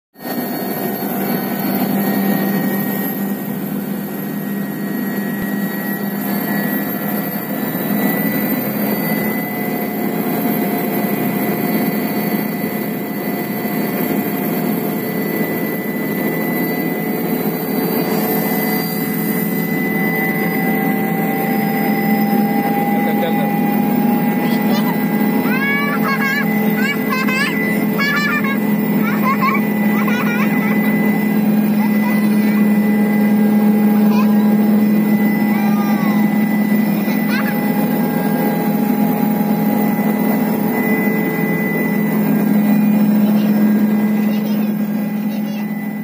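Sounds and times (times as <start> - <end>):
helicopter turbine engine whine: 0.2 - 46.0.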